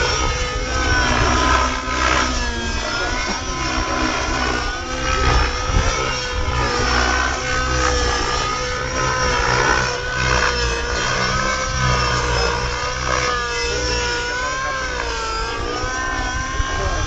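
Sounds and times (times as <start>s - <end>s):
model helicopter whine: 0.0s - 17.0s.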